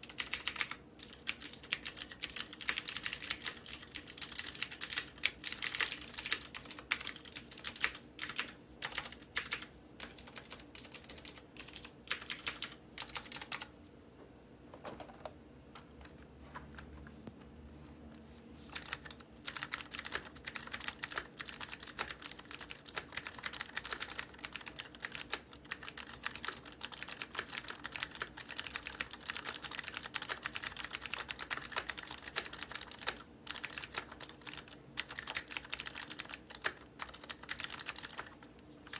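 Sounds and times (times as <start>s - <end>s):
clicky keyboard typing: 0.0s - 13.7s, 18.7s - 38.9s.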